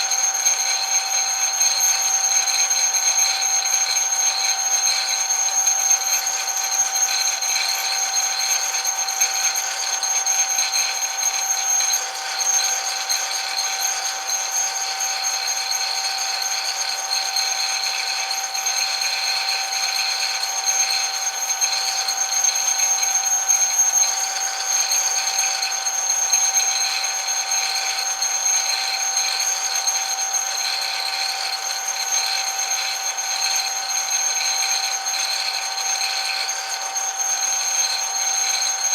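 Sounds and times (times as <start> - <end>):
metal lathe whining: 0.0 - 38.9.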